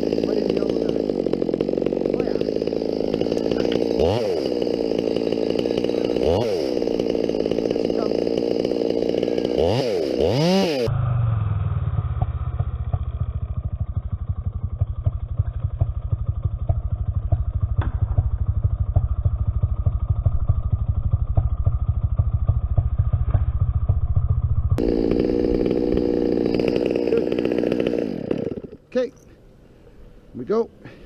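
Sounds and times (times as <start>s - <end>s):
chainsaw idling: 0.0s - 10.9s, 11.8s - 29.3s.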